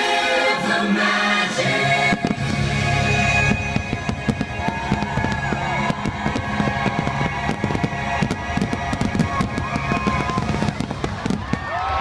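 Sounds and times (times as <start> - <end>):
music playing: 0.0 - 11.4
fireworks bangs: 2.0 - 12.0.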